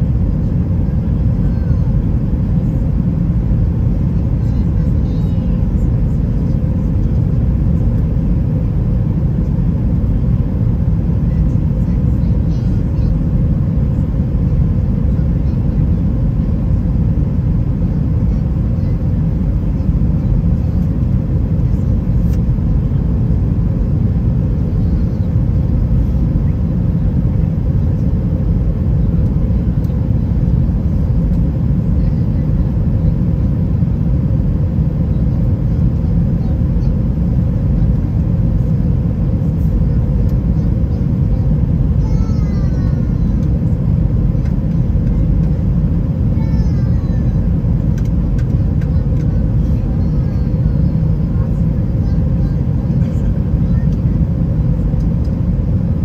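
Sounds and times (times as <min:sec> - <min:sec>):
aircraft cabin rumble: 0:00.0 - 0:56.0
faint steady hum: 0:00.0 - 0:56.0.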